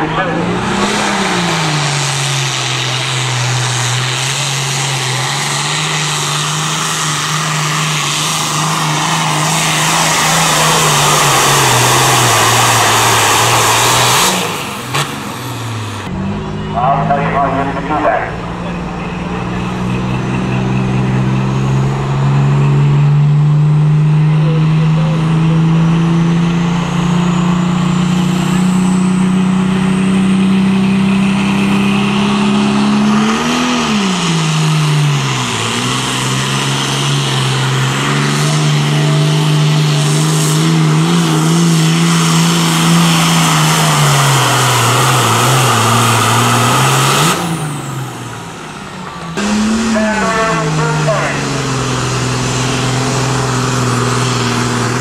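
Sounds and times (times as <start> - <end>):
tractor diesel engine at full power: 0.0 - 55.0.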